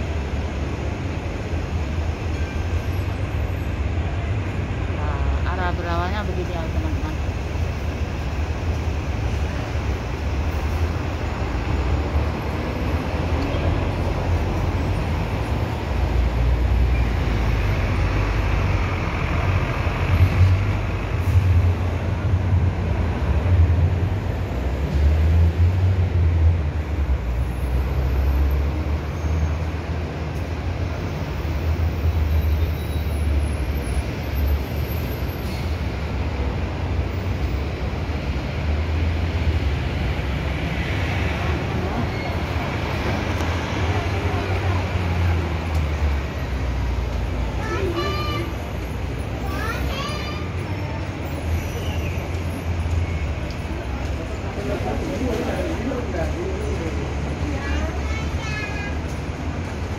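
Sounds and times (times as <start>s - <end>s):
city street traffic: 0.0s - 59.9s.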